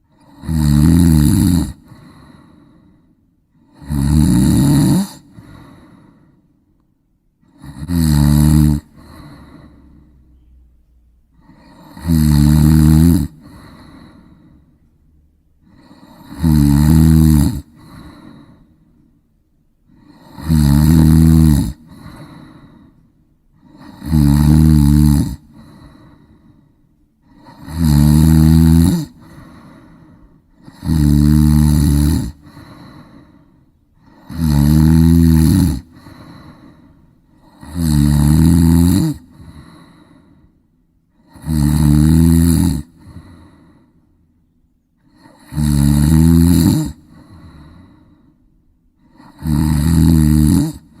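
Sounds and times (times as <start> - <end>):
person snoring: 0.0 - 6.4, 7.4 - 10.5, 11.3 - 14.8, 15.6 - 18.9, 19.9 - 44.0, 45.0 - 48.3, 49.0 - 51.0
quiet breathing: 1.7 - 3.9, 4.9 - 7.8, 8.6 - 51.0.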